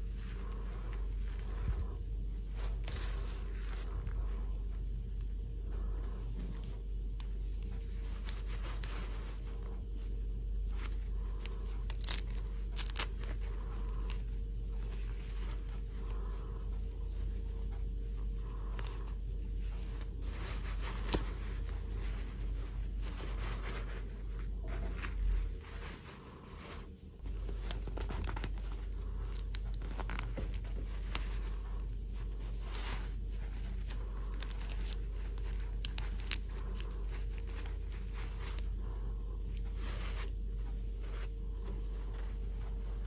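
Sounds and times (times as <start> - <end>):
fabric rustling and scraping: 0.0 - 4.6, 5.8 - 43.0
steady low hum: 0.0 - 43.0.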